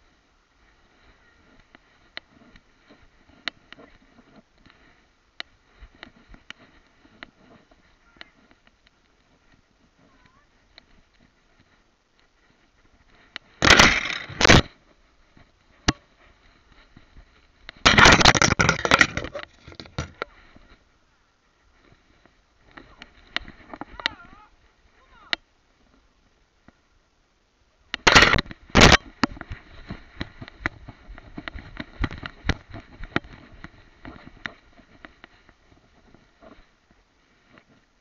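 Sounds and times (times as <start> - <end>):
rustling through long grass: 0.0 - 38.0.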